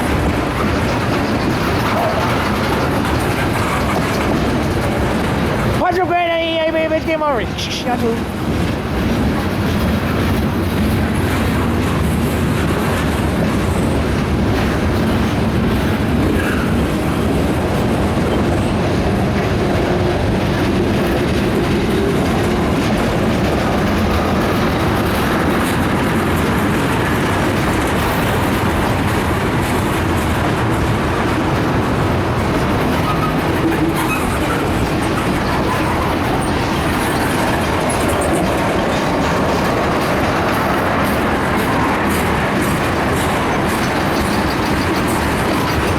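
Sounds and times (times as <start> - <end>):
wheels clicking over rail joints: 0.0 - 6.2, 8.3 - 45.9
freight train cars rolling past: 0.0 - 45.9.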